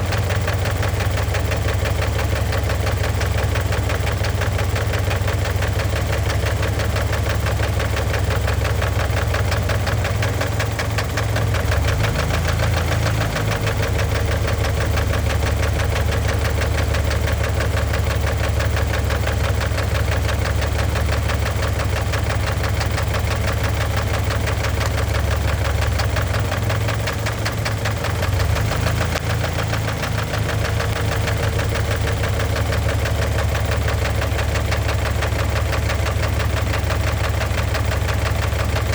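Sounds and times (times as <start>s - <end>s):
engine idling with rapid knock: 0.0s - 38.9s.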